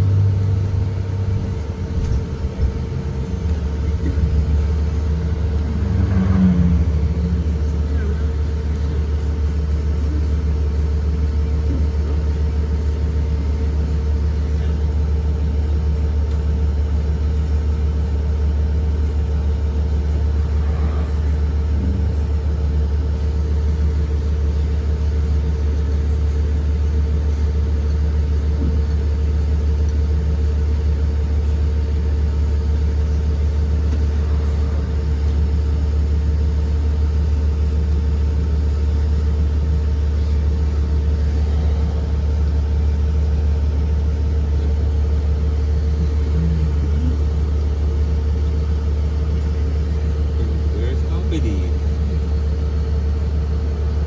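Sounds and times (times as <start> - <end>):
bus engine droning: 0.0 - 54.0
constant hum: 0.0 - 54.0.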